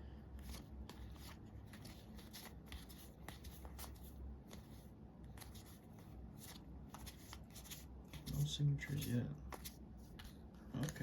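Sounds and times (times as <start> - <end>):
low steady hum: 0.0 - 11.0
cards clicking and rubbing: 0.4 - 11.0.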